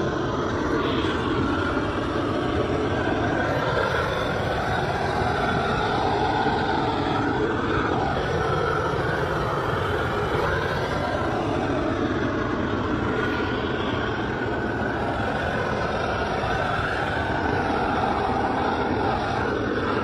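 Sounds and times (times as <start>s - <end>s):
gas torch flame roaring: 0.0s - 20.0s.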